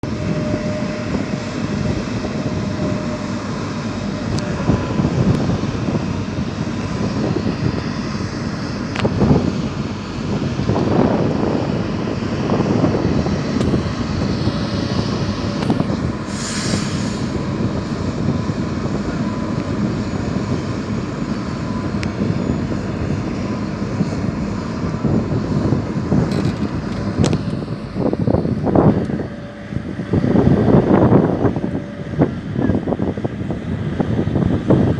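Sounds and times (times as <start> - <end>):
jet engines roaring at takeoff: 0.0 - 34.9.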